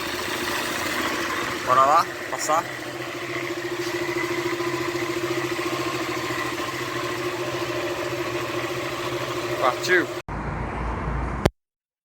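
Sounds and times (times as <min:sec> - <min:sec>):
motorcycle engine idling: 0:00.0 - 0:10.2
rattling from engine cover: 0:00.0 - 0:10.2.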